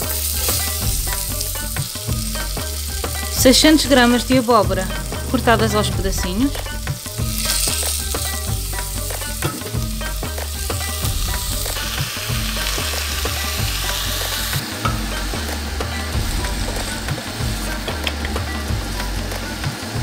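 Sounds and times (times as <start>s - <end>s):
background music with beat: 0.0s - 20.0s
food sizzling in oil: 0.0s - 20.0s.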